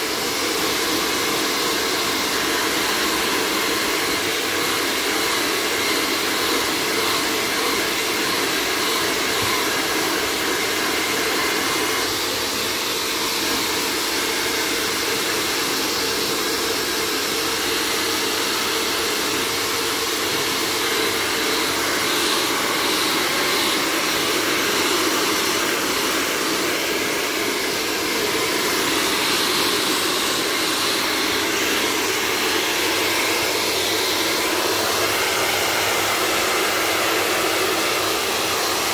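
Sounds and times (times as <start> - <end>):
blow dryer running: 0.0 - 38.9.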